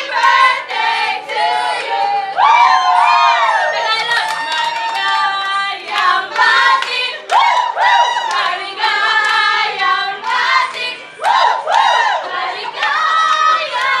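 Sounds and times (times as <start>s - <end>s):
women singing together: 0.0s - 14.0s.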